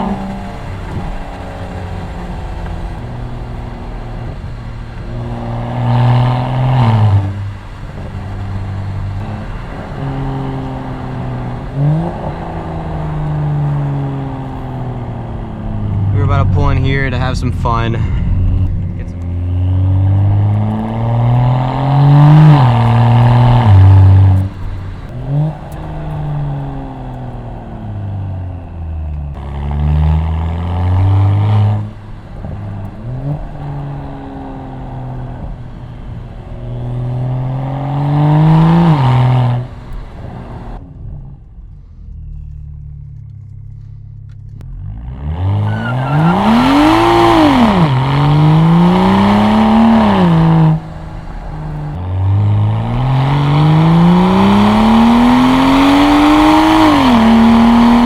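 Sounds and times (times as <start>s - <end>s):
car engine revving through exhaust: 0.0s - 58.0s.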